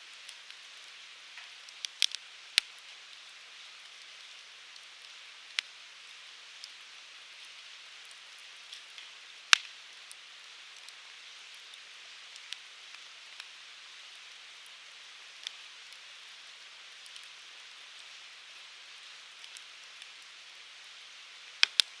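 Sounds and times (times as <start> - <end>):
firewood crackling and popping: 0.2 - 22.0.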